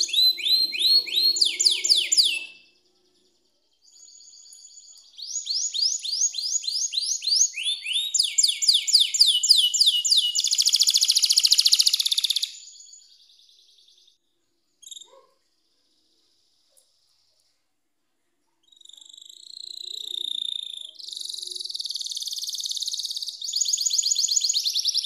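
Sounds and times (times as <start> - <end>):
canary singing: 0.0 - 14.0, 18.6 - 25.0.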